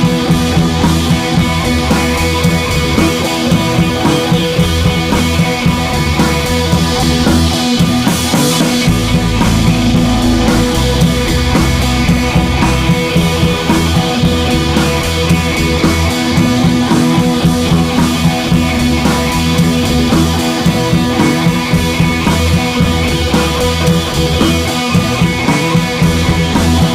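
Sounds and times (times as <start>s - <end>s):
rock music with guitar and drums: 0.0s - 26.9s.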